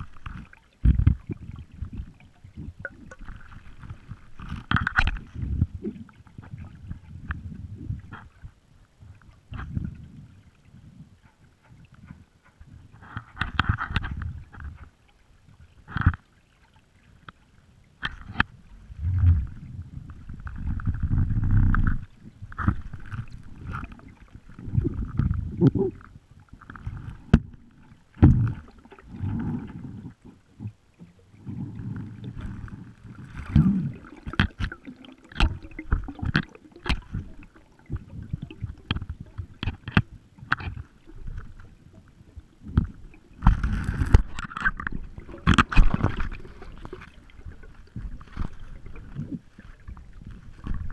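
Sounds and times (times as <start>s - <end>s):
muffled underwater rumbles: 0.0s - 16.3s, 17.8s - 50.9s.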